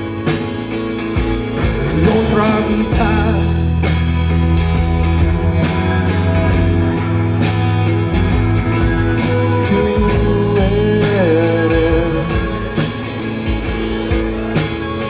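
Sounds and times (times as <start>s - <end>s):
live rock band playing: 0.0s - 15.0s
steady drum beat: 0.0s - 15.0s
person singing: 1.8s - 15.0s.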